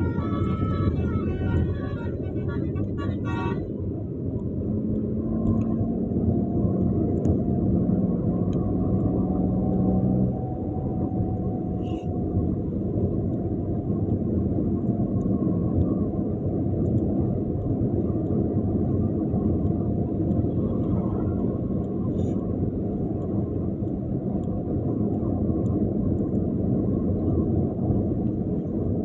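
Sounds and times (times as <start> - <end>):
vehicle rumble: 0.0 - 29.0.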